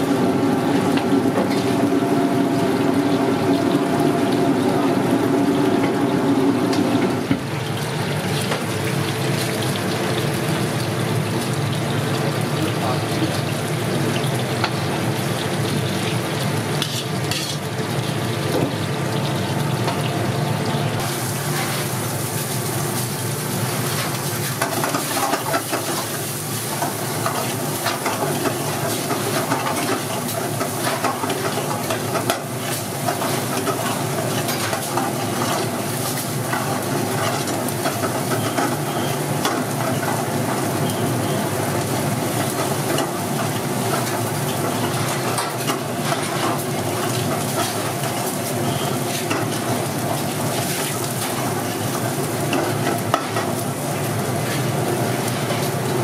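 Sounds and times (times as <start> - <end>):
deep-frying in oil: 0.0 - 56.0
garlic sizzling in a wok: 0.0 - 56.0.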